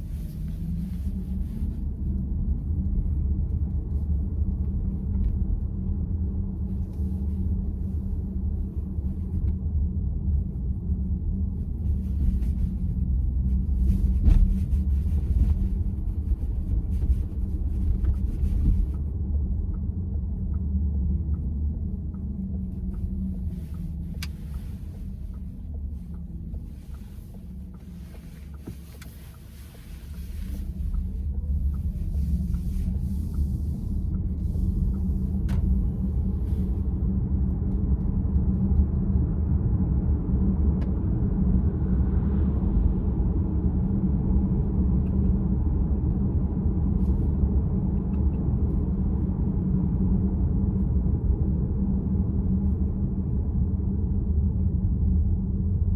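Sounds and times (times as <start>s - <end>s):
road and tyre rumble: 0.0s - 55.9s.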